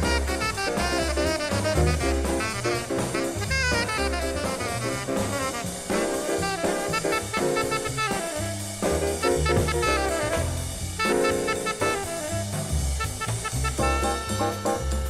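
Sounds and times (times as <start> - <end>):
drum kit: 0.0 - 15.0
horn playing quick runs: 0.0 - 15.0
moving bass line: 0.0 - 15.0.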